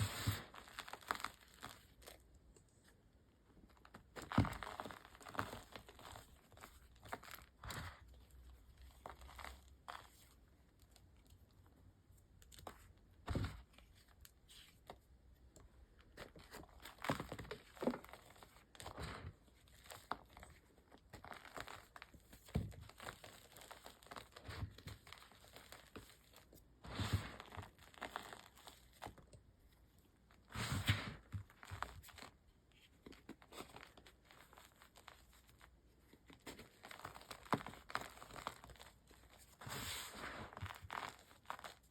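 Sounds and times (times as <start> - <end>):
chalk crunching and crumbling: 0.0 - 3.0, 3.6 - 11.0, 16.0 - 29.3, 29.9 - 41.9.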